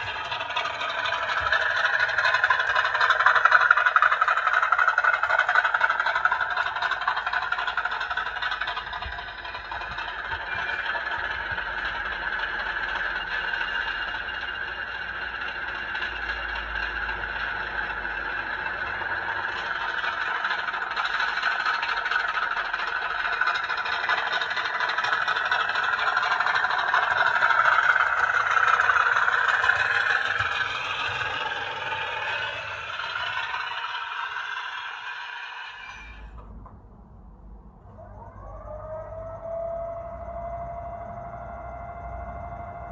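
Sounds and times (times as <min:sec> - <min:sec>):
model train rattling on track: 0:00.0 - 0:36.9
model train diesel engine sound: 0:00.0 - 0:42.9.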